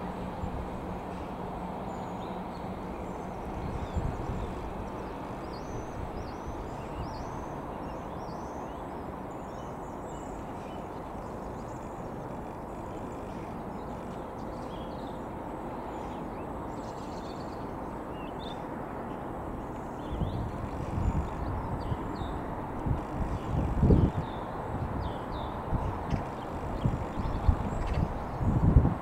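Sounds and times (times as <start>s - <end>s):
diesel train rumble approaching: 0.0s - 28.6s
birds chirping: 0.0s - 28.8s.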